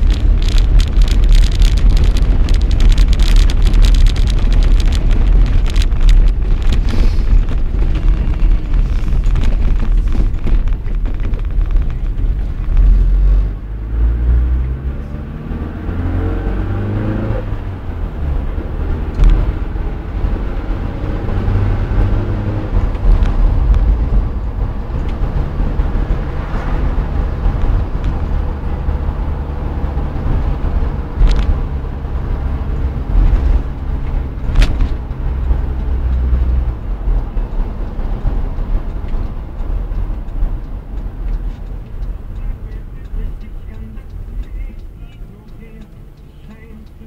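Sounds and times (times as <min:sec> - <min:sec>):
wind on microphone: 0:00.0 - 0:42.3
road noise: 0:00.0 - 0:47.0
vehicle engine: 0:00.0 - 0:47.0.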